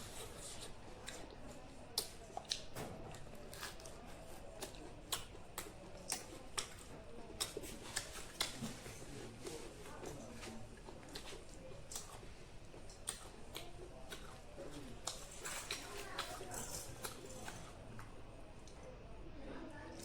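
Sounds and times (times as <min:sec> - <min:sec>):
person chewing food: 0:00.0 - 0:18.9.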